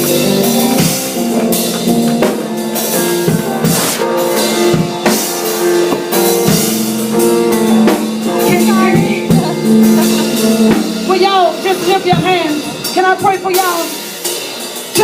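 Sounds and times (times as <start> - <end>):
church band music: 0.0 - 15.0
drum kit beat: 0.0 - 15.0.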